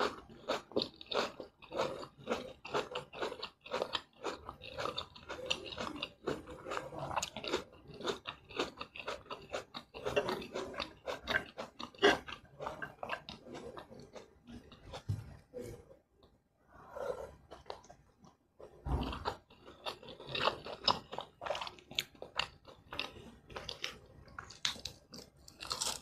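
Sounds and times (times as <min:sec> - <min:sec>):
person chewing noodles: 0:00.0 - 0:26.0.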